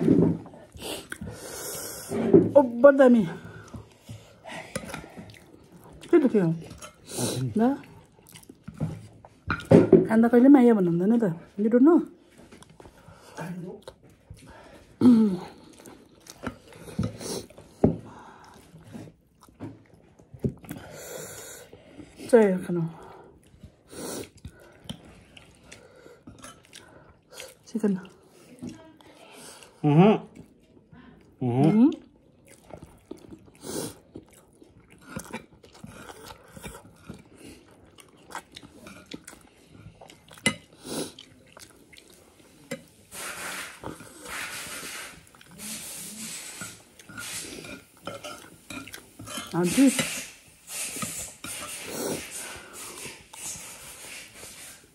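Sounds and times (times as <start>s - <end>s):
person chewing food: 0.0s - 2.3s, 3.3s - 9.7s, 12.3s - 22.2s, 23.0s - 54.9s.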